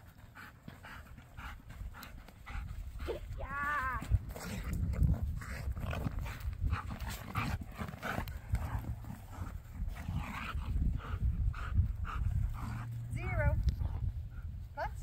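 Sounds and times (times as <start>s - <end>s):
dog panting: 0.0s - 3.4s, 4.2s - 14.6s.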